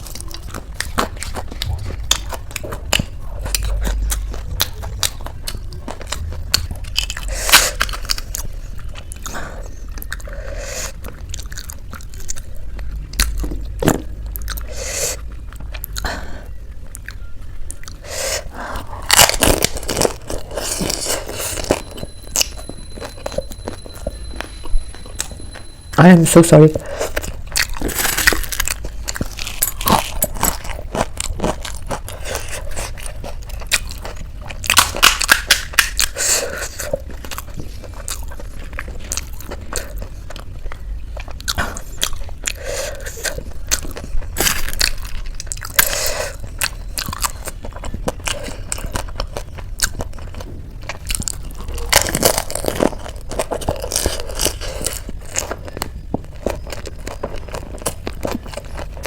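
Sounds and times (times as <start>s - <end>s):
crunchy food being chewed: 0.0s - 59.0s.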